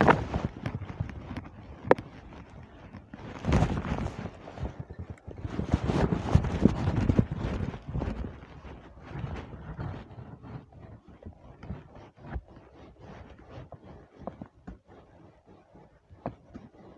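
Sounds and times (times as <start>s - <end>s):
wind buffeting microphone: 0.0s - 13.6s.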